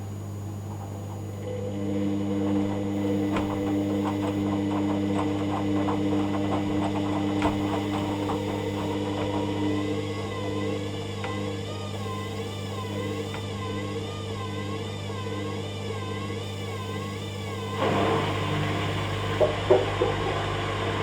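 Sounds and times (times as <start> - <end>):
washing machine motor hum: 0.0 - 21.0
wavering whine: 0.0 - 21.0.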